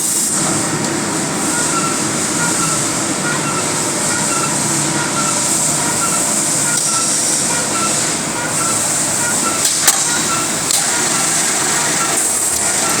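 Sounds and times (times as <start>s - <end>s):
constant high hiss: 0.0s - 13.0s
packaging machine running: 0.0s - 13.0s.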